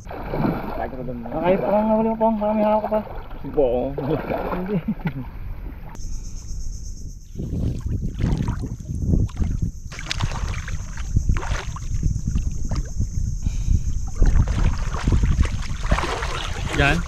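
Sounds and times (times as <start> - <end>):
splashes in water: 0.0 - 5.9, 7.7 - 12.9, 14.1 - 17.0
water sloshing and lapping: 0.0 - 6.0, 7.6 - 17.0
wind buffeting microphone: 0.0 - 17.0.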